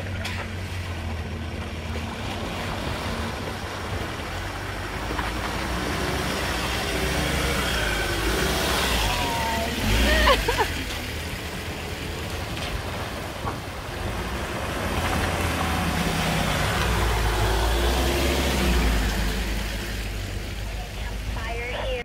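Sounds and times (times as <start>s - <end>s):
vehicle driving up muddy track: 0.0s - 22.0s.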